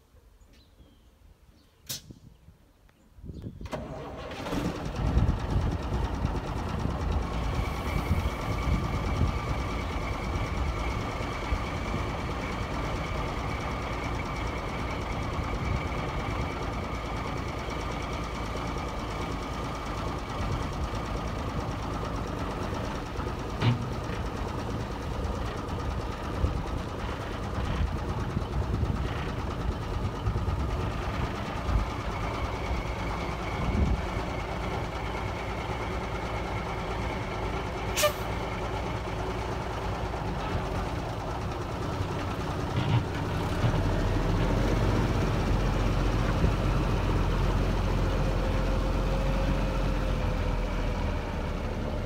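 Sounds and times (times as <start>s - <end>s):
faint engine whine: 3.2s - 52.0s
diesel truck engine starting and idling: 3.4s - 52.0s.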